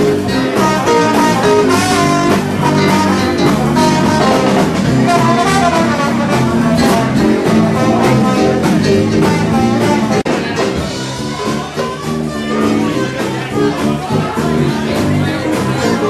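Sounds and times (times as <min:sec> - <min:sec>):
jazz dance music with horns: 0:00.0 - 0:16.0.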